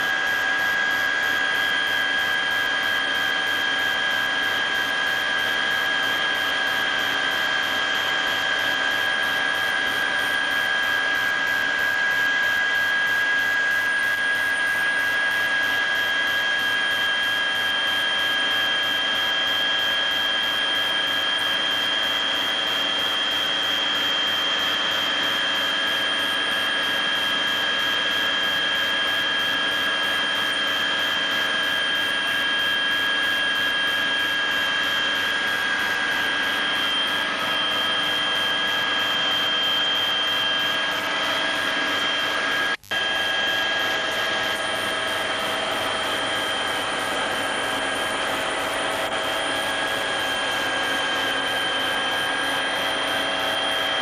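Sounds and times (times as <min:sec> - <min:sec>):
aircraft turbine engines whining: 0:00.0 - 0:54.0.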